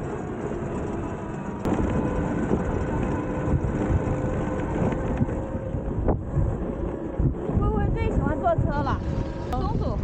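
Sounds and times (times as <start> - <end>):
road noise: 0.0 - 10.0
wind buffeting microphone: 0.0 - 10.0.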